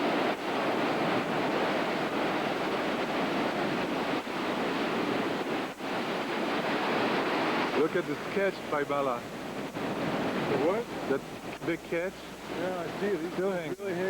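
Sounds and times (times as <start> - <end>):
wind buffeting microphone: 0.0 - 13.7
heavy surf crashing: 0.0 - 14.0.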